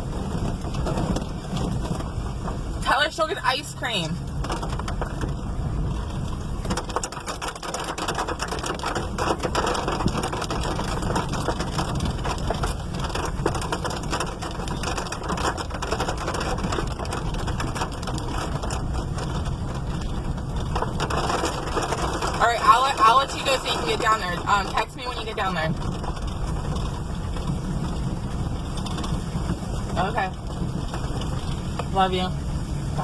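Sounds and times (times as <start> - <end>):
heavy rain on a car: 0.0 - 33.0.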